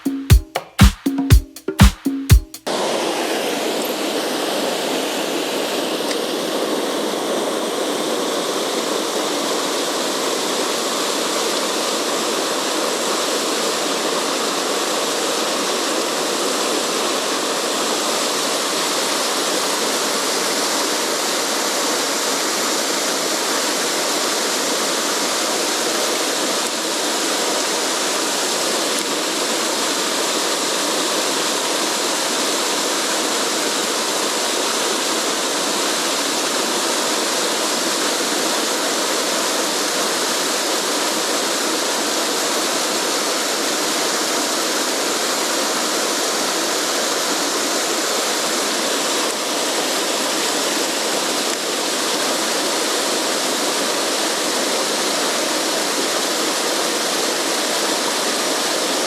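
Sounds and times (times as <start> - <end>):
stream water rushing: 2.7 - 59.0.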